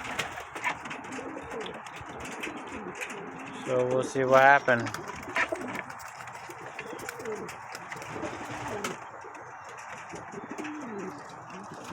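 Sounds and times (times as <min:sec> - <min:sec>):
pigeons cooing: 0:00.0 - 0:11.9
small clicks and scuffs: 0:00.6 - 0:11.9.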